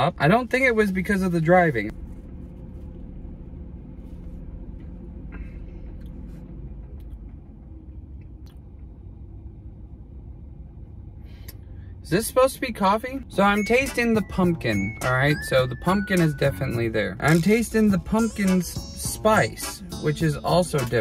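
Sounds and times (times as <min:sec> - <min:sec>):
car interior hum: 0:00.0 - 0:21.0.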